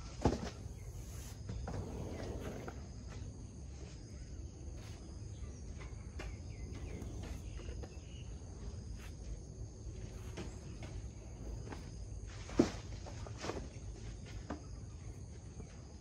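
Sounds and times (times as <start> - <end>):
constant low rumble: 0.0 - 16.0
insects droning: 0.0 - 16.0.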